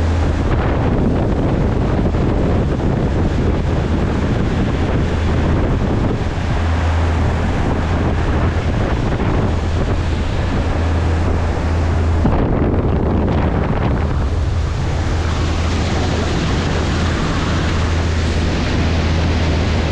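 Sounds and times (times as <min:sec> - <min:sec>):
boat engines droning: 0:00.0 - 0:19.9
rush of boat wake: 0:00.0 - 0:19.9
wind buffeting microphone: 0:00.0 - 0:19.9.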